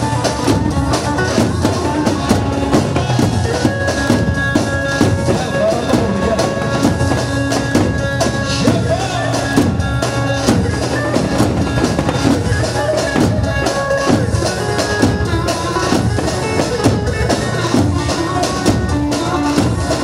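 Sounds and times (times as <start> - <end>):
bass drums beating: 0.0 - 20.0
wavering melody instrument: 0.0 - 20.0.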